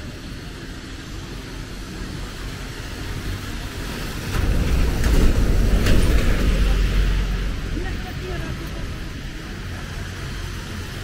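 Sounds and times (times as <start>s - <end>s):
bus passing: 0.0s - 11.0s
traffic on wet street: 0.0s - 11.0s.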